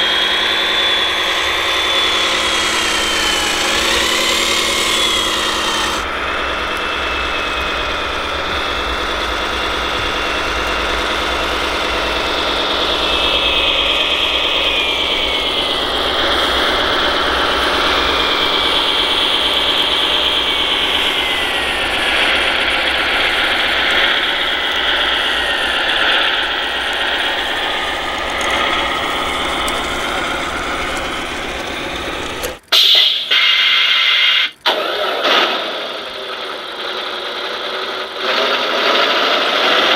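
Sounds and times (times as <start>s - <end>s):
loud engine sound: 0.0s - 39.9s
toy truck engine sound: 0.0s - 39.9s.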